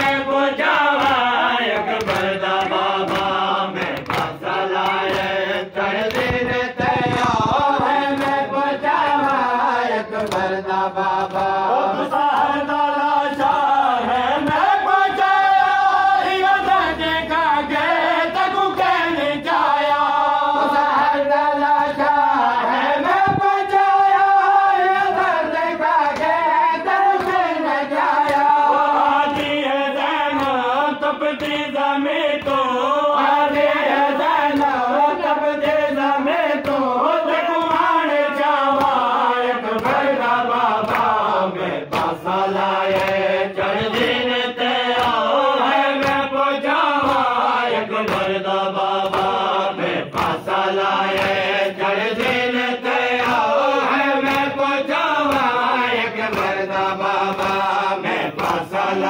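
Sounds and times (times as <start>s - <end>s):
men chanting: 0.0s - 59.0s.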